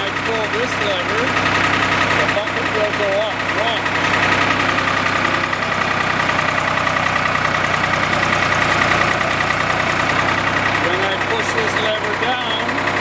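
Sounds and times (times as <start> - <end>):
tractor engine running loudly: 0.0 - 13.0.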